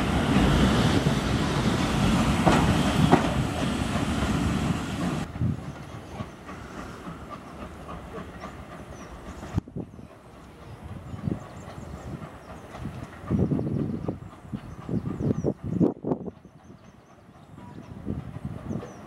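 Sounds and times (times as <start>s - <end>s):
distant train rumble: 0.0s - 19.0s
train coaches rumbling past: 0.0s - 19.0s.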